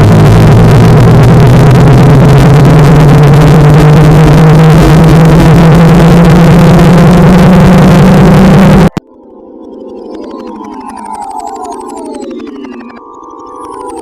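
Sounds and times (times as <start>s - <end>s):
distorted phone ringtone: 0.0s - 14.0s.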